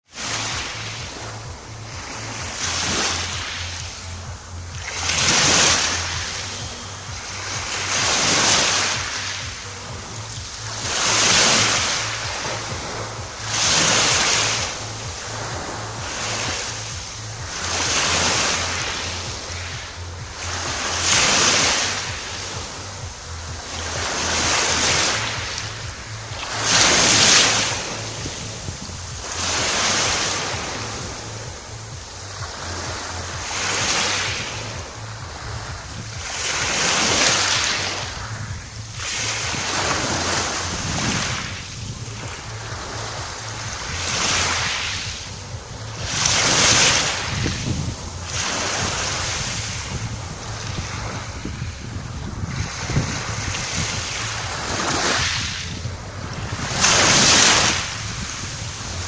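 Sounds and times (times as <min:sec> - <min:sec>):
sea waves breaking on shore: 0:00.0 - 0:59.0
wind rumbling on microphone: 0:00.0 - 0:59.0.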